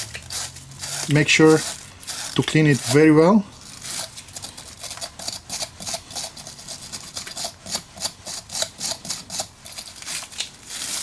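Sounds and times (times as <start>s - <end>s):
wire brush scraping metal: 0.0s - 11.0s.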